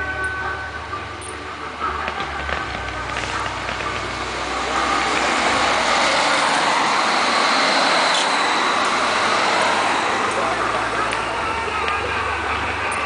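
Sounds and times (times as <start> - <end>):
fireworks hissing: 1.2 - 13.0.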